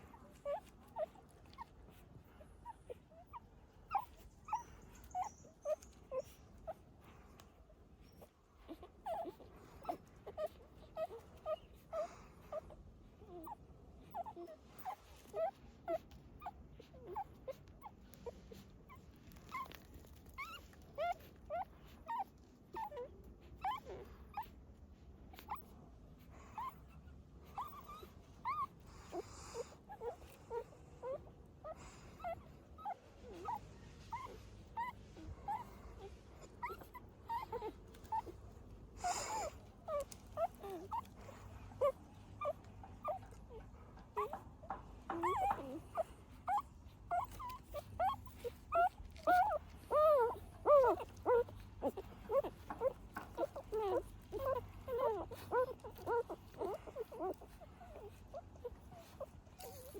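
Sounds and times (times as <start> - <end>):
puppies whimpering and squeaking: 0.0 - 59.9.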